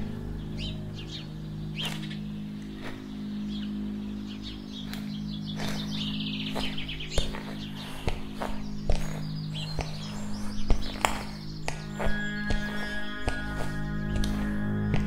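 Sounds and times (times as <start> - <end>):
low droning background music: 0.0 - 15.0
small birds chirping: 0.0 - 15.0.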